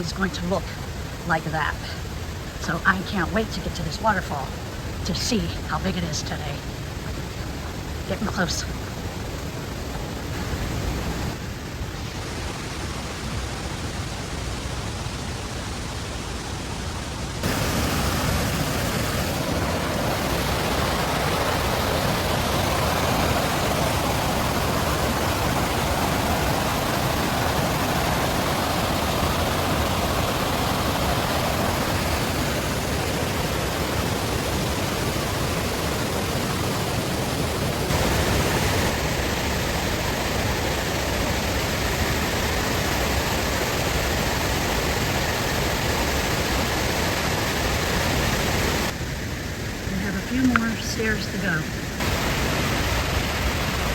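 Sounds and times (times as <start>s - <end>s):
creek water rushing: 0.0s - 53.9s.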